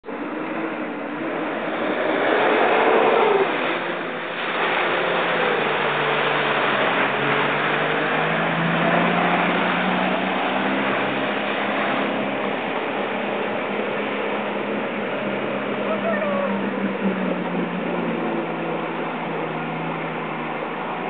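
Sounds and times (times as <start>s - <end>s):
water splashing around wheels: 0.0s - 21.0s.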